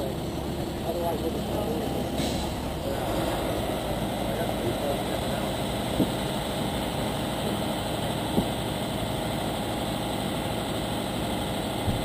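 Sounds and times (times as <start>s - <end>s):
fire engine idling: 0.0s - 12.0s.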